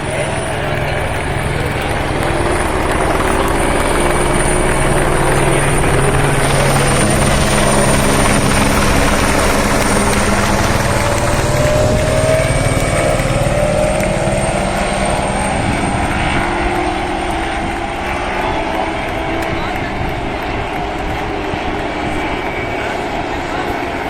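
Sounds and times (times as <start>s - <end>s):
loud engine with rising tones: 0.0s - 24.0s.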